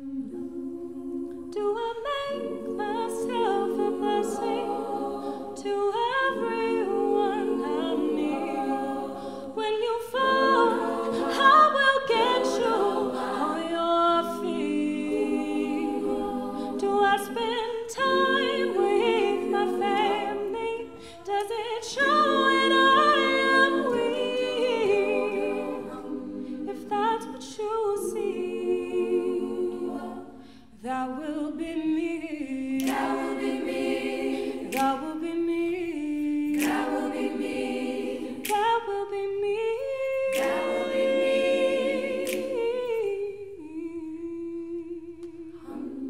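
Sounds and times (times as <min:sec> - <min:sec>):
women singing in close harmony: 0:00.0 - 0:46.0.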